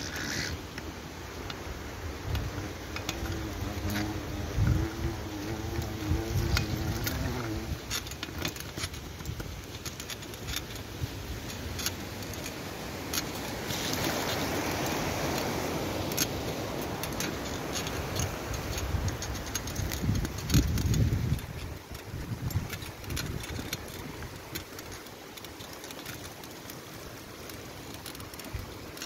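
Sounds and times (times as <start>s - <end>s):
bike tyres hissing on snow: 0.0s - 9.4s, 10.8s - 29.0s
bike rattling clicks: 0.0s - 29.0s.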